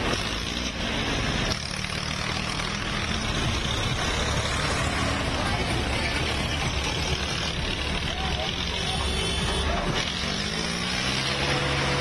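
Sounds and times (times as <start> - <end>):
road and wind noise: 0.0 - 12.0
tractor engines running: 0.0 - 12.0.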